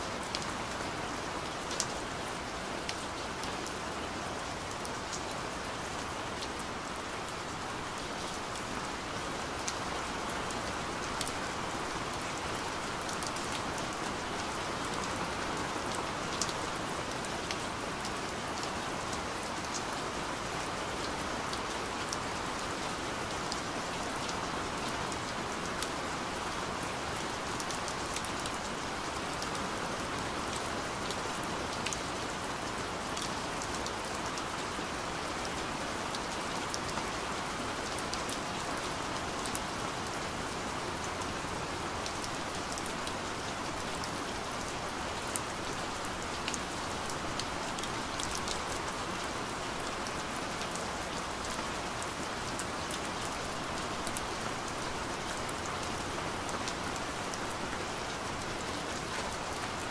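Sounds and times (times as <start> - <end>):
steady rain hiss: 0.0 - 59.9
sharp ticks of raindrops: 0.1 - 59.9.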